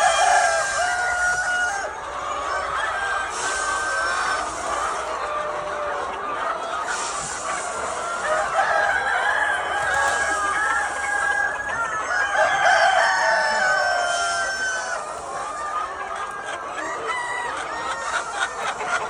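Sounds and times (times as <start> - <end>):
chickens clucking: 0.0 - 19.0
roosters crowing: 0.0 - 19.0.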